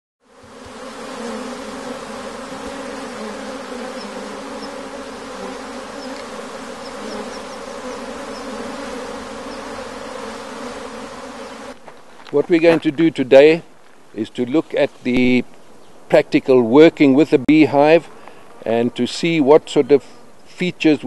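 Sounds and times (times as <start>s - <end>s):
honeybees buzzing: 0.2s - 21.0s.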